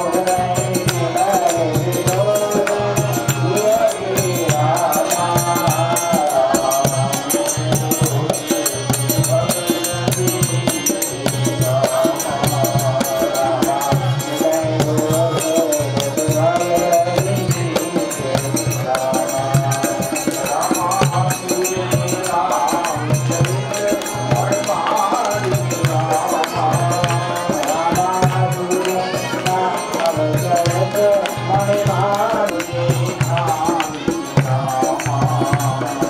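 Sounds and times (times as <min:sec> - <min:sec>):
devotional hymn singing: 0:00.0 - 0:36.0
jingling percussion: 0:00.0 - 0:36.0.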